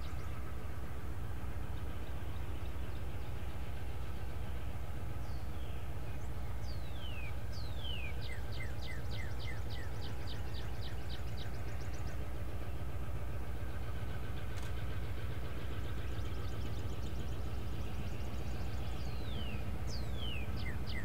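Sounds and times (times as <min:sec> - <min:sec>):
diesel locomotive droning: 0:00.0 - 0:21.0
songbird singing: 0:00.0 - 0:21.0.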